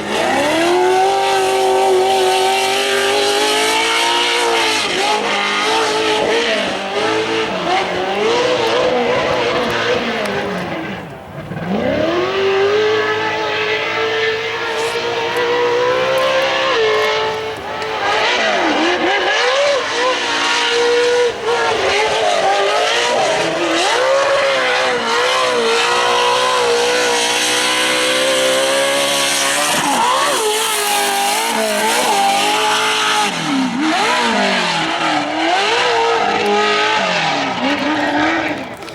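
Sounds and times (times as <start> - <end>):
race truck engines revving: 0.0 - 38.9.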